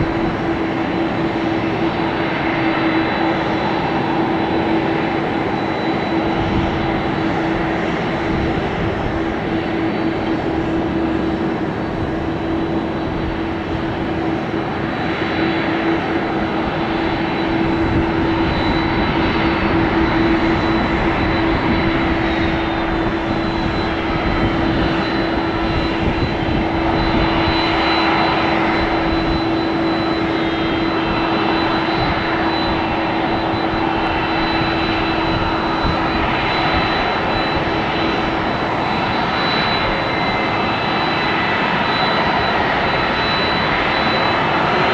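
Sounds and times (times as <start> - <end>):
jet airliner engines running: 0.0 - 44.9.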